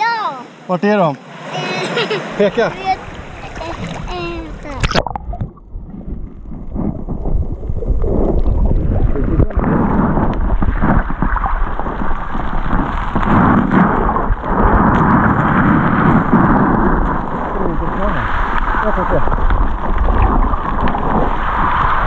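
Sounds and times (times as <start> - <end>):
muffled underwater churning: 1.2 - 22.0.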